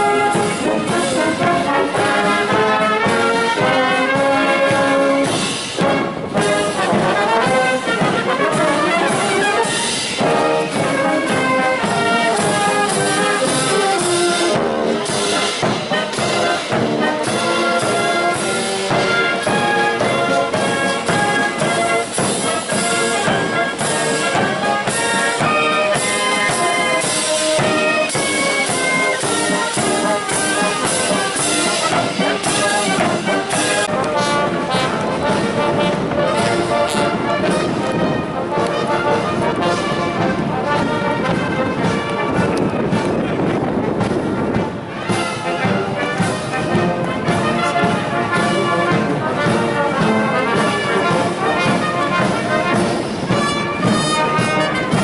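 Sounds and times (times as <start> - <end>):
brass chords: 0.0 - 55.0
steady drum beat: 0.0 - 55.0.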